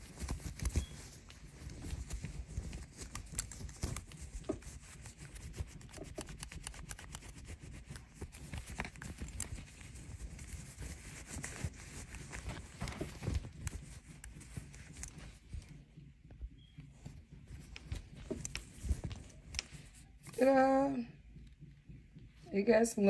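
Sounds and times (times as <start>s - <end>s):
towel rubbing metal buckle: 0.0s - 20.6s.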